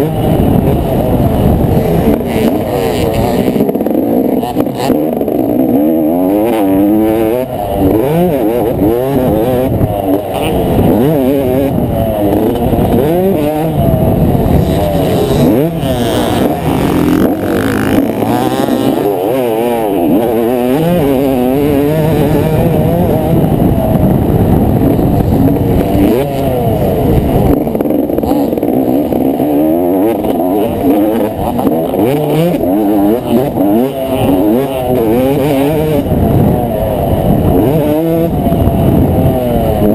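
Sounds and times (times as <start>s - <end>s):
motocross bike engine: 0.0s - 39.9s.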